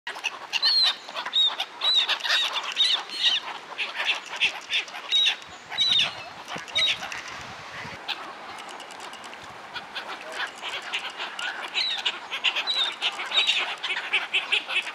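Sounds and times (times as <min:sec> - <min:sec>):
birds flapping and splashing: 0:00.1 - 0:14.9
gulls calling: 0:00.1 - 0:14.9.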